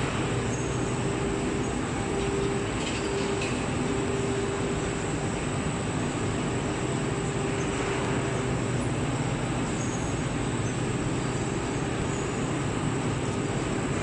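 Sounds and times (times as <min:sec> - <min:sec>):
production line machinery hum: 0:00.0 - 0:14.0.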